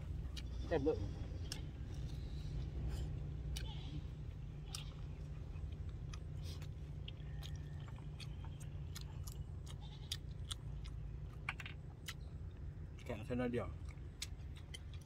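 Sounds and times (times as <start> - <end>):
person chewing crunchy food: 0.0 - 13.1, 13.8 - 15.0
steady low rumble: 0.0 - 15.0.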